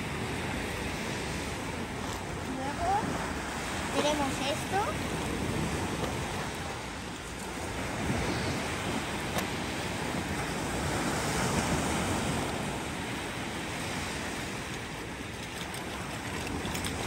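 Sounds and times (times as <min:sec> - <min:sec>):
surf breaking on sand: 0:00.0 - 0:17.0
wind on microphone: 0:00.0 - 0:17.0.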